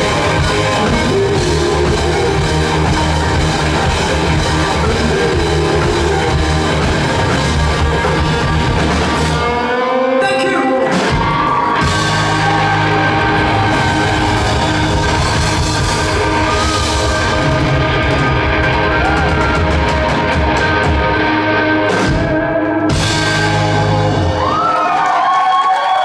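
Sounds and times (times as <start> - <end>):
drum kit: 0.0 - 9.7, 10.3 - 25.0
live rock band playing: 0.0 - 25.2
electric guitar: 0.0 - 26.0.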